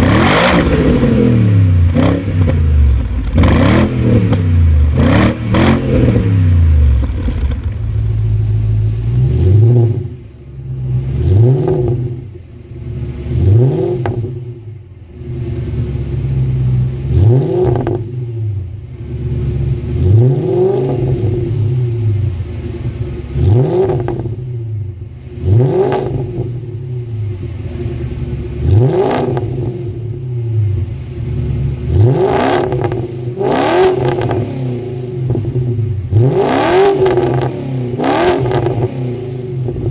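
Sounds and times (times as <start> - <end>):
car engine revving and idling: 0.0 - 39.9.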